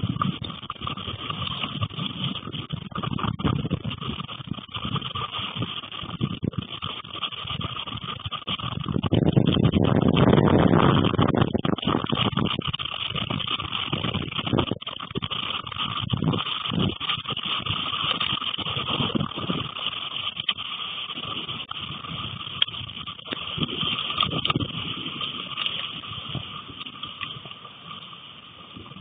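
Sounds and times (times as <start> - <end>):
steady hiss: 0.0 - 29.0
wind buffeting microphone: 0.0 - 29.0.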